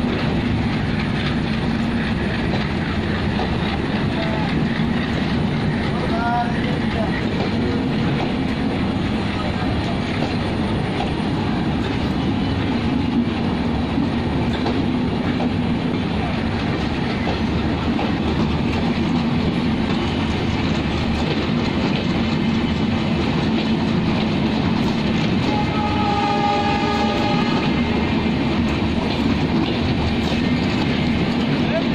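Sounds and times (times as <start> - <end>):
train wheels over rail joints: 0.0 - 31.9.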